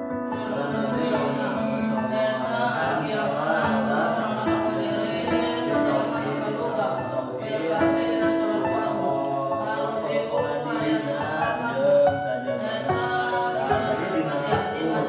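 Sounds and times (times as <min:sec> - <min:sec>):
music of held chords: 0:00.0 - 0:15.0.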